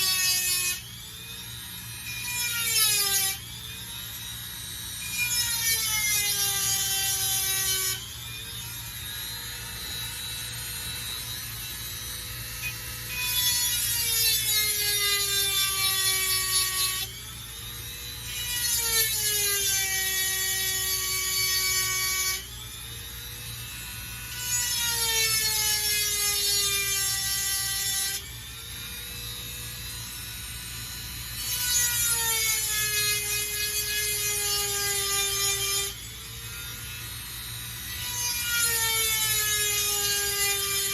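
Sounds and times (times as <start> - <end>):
rotary tool grinding metal: 0.0 - 40.9.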